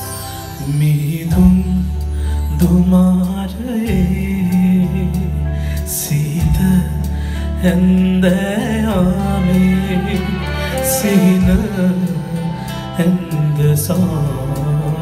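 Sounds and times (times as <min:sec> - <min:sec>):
band playing pop song: 0:00.0 - 0:15.0
steady bass line: 0:00.0 - 0:15.0
man singing through amplifier: 0:00.6 - 0:15.0.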